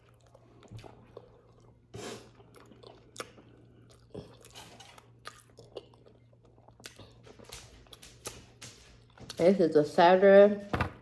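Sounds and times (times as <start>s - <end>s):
person chewing: 0.0s - 9.3s.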